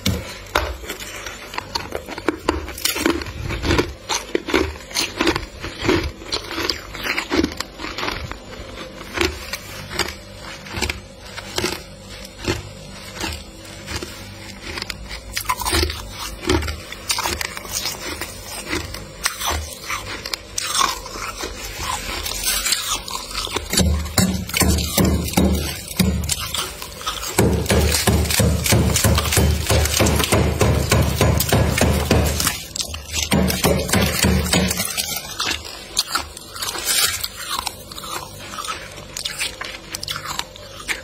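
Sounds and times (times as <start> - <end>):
freezer frost crunching: 0.0 - 41.0.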